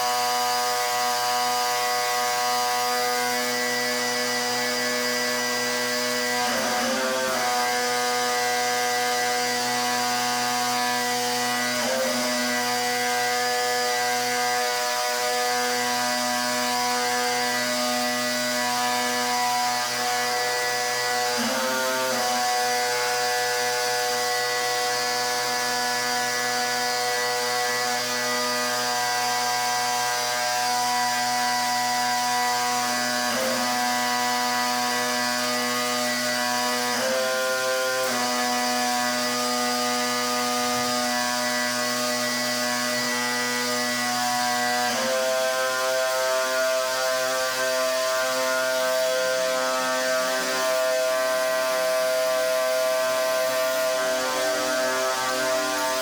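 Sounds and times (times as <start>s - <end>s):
pressure washer machine hum: 0.1s - 28.1s, 28.9s - 56.0s.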